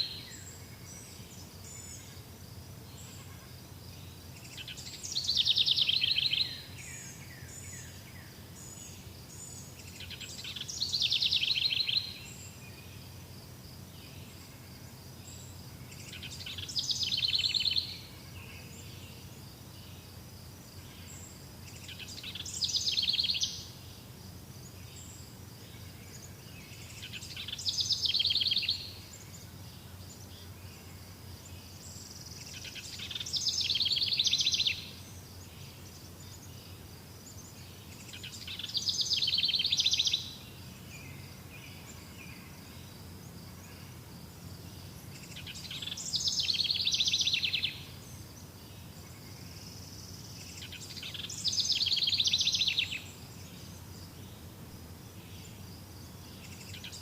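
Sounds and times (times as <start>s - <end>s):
songbird singing with trill: 0.0s - 57.0s.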